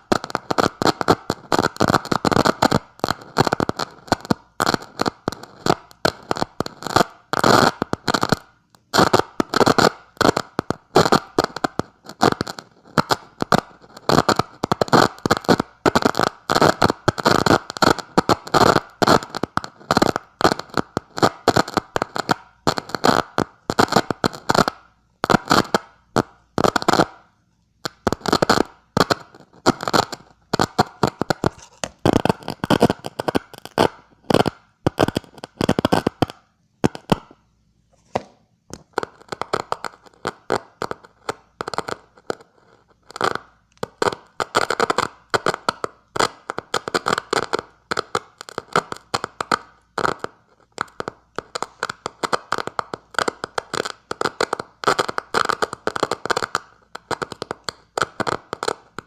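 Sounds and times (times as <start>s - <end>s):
crackling radio static bursts: 0.0s - 59.0s.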